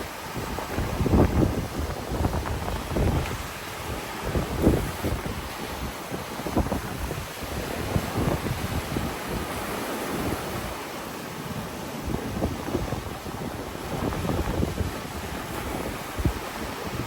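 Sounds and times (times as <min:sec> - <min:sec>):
ocean waves washing on beach: 0:00.0 - 0:17.0
wind buffeting microphone: 0:00.0 - 0:17.0.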